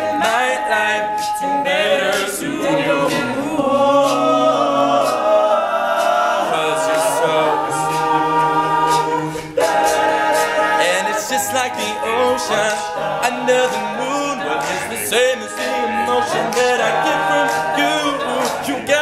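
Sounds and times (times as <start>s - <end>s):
male a cappella group singing: 0.0s - 19.0s
vocal percussive clicks: 0.0s - 19.0s.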